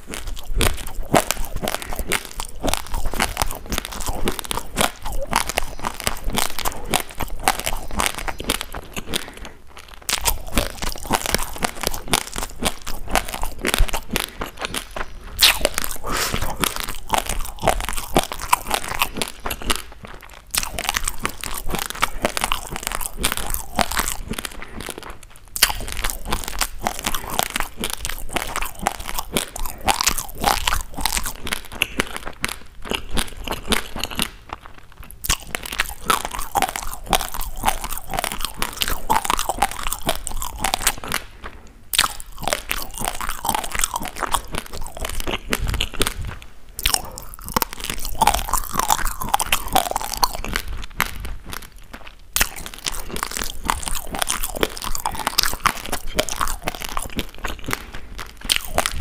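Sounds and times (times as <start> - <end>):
rice grains crunched between teeth: 0.0 - 59.0.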